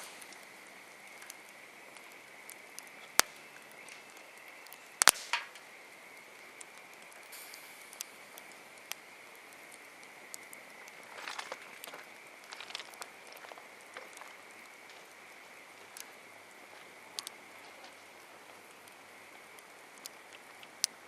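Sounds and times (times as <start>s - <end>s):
campfire crackling and popping: 0.0s - 21.0s
soft fire hiss: 0.0s - 21.0s.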